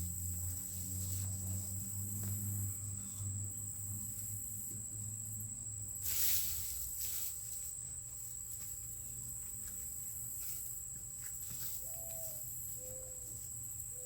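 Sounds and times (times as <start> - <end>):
rustling of straw and soil: 0.0 - 3.3, 5.8 - 14.0.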